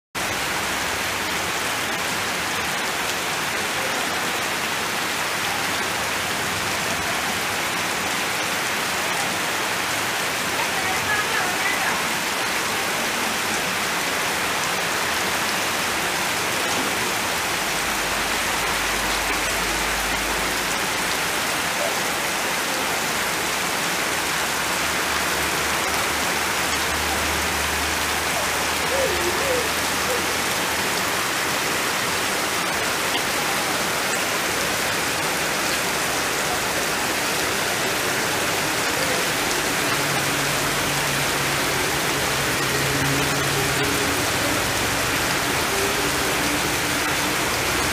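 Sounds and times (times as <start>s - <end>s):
heavy rain on foliage: 0.1s - 47.9s.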